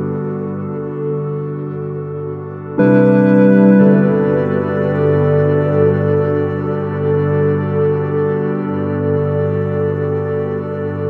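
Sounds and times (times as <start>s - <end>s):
music of sustained chords: 0.0s - 11.0s.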